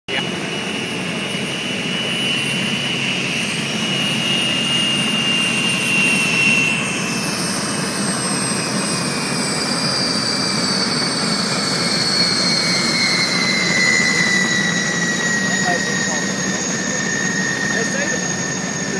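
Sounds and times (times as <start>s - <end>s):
gas turbine engines whining: 0.1s - 18.9s.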